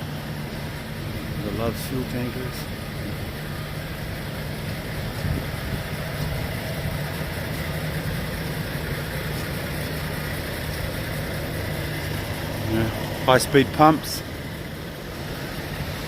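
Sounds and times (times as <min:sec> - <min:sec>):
diesel truck engine humming: 0:00.0 - 0:16.0.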